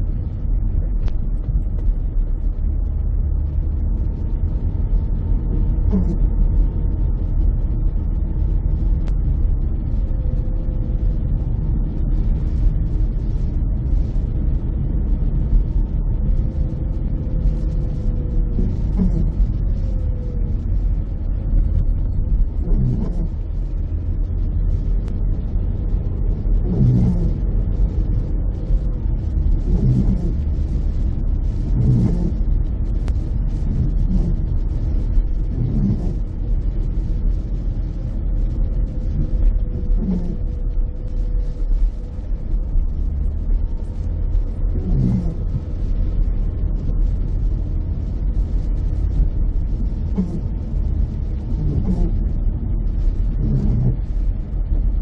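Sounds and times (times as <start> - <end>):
road and engine rumble: 0.0 - 55.0
windscreen wiper strokes: 0.8 - 9.3, 11.5 - 55.0.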